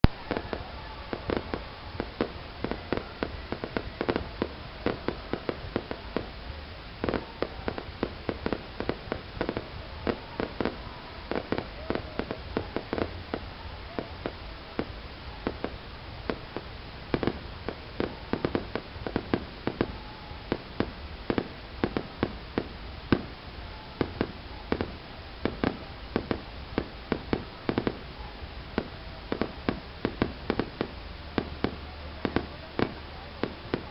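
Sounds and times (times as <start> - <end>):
fireworks bangs and pops: 0.0 - 33.9.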